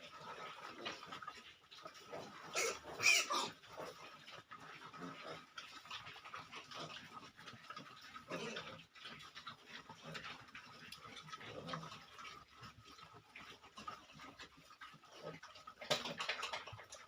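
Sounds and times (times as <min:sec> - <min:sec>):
pigs grunting and snuffling: 0:00.0 - 0:17.0.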